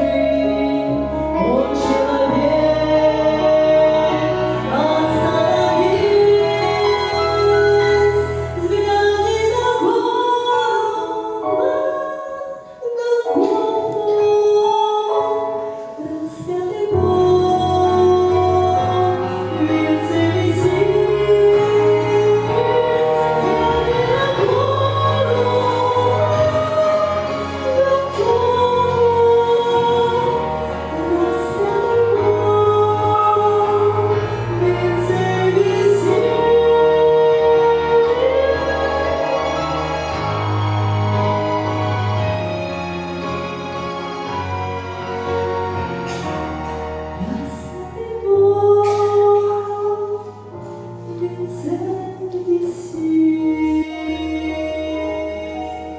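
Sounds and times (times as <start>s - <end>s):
woman singing: 0.0s - 40.8s, 46.2s - 55.9s
christian song with voices: 0.0s - 55.9s
musical accompaniment: 0.0s - 55.9s.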